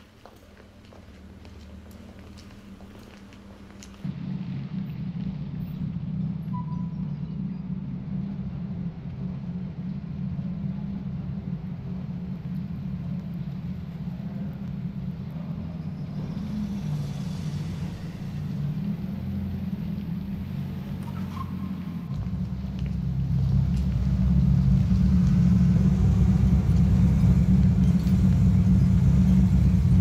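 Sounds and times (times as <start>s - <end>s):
car engine running at low revs: 0.0s - 30.0s.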